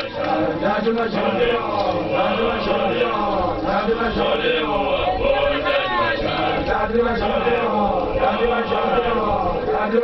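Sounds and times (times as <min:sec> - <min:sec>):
men chanting together: 0:00.0 - 0:10.0.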